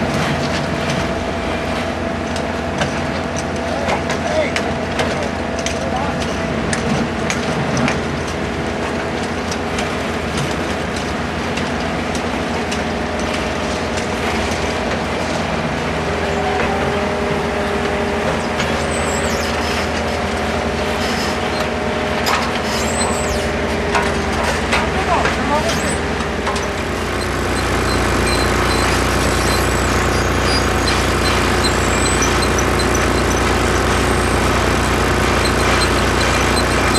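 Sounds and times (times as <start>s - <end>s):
machine engine running: 0.0s - 36.9s.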